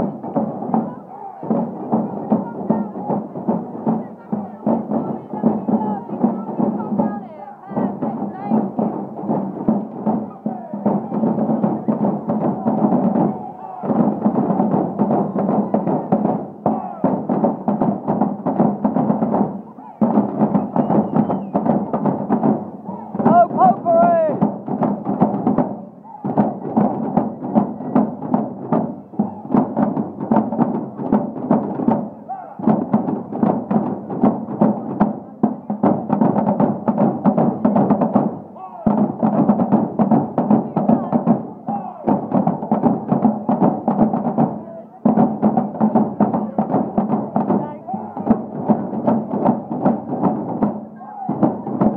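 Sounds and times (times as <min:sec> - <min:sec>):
marching band drums: 0:00.0 - 0:51.9.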